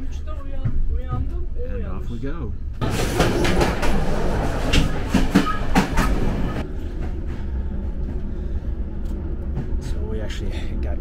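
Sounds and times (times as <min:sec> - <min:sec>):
train rattling and rumbling: 0:00.0 - 0:11.0.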